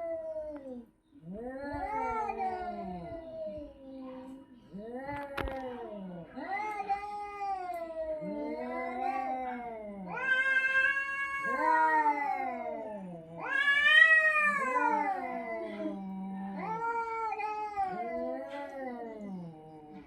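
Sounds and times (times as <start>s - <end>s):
cat yowling: 0.0s - 3.7s, 6.4s - 16.0s, 16.6s - 19.6s.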